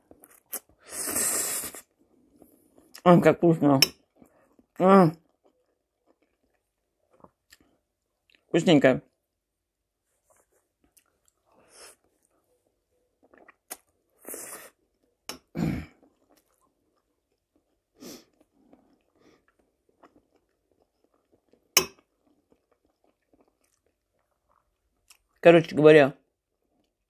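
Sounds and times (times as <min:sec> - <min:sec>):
person chewing food: 0:00.0 - 0:03.0, 0:03.9 - 0:08.5, 0:10.3 - 0:25.4.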